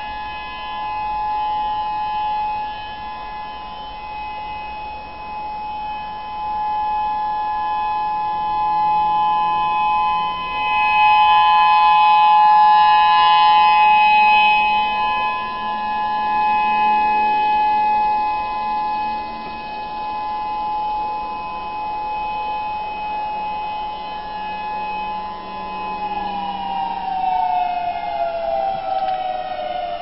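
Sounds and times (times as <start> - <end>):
two-note warning siren: 0.0 - 30.0.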